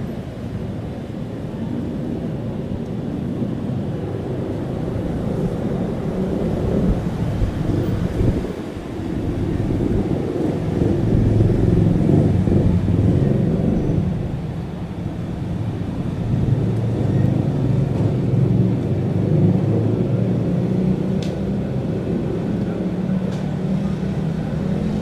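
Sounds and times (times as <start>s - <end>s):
turboprop engines droning: 0.0s - 25.0s.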